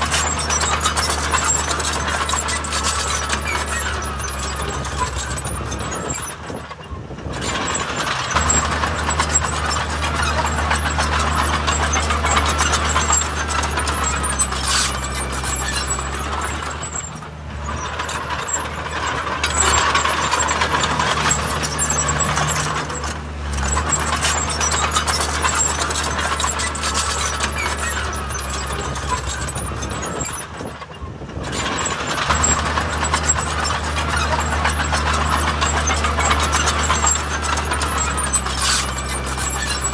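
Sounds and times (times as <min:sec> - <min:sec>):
heavy diesel machinery engines: 0:00.0 - 0:39.9.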